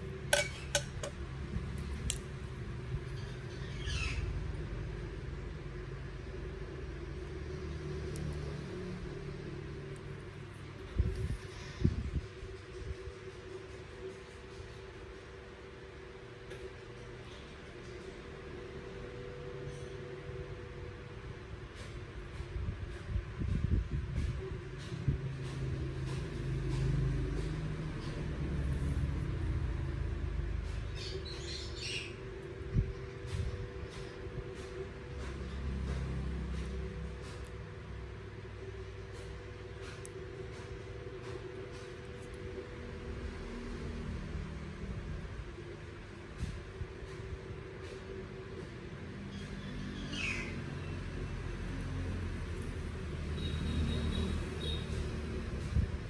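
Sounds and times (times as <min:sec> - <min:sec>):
low background hum and rumble: 0:00.0 - 0:56.0.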